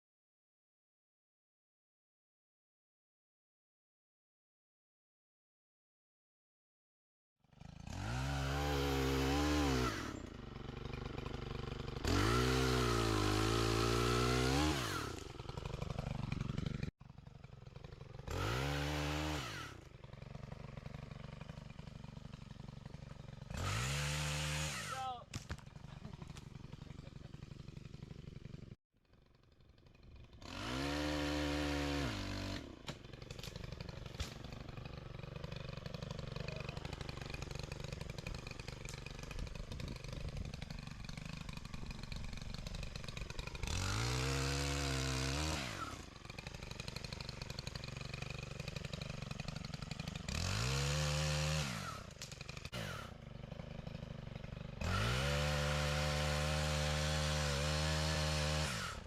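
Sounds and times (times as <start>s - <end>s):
chainsaw idling and revving: 7.4s - 59.0s.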